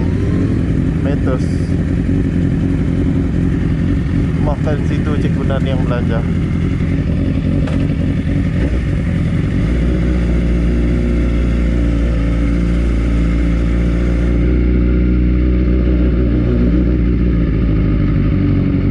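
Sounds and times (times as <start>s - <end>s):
motorcycle engine idling: 0.0s - 18.9s.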